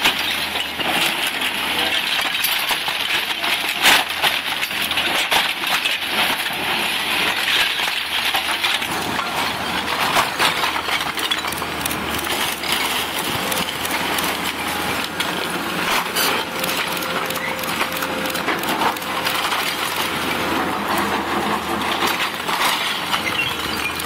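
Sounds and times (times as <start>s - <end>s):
debris cracking and clattering: 0.0s - 24.0s
diesel engines humming: 0.0s - 24.0s.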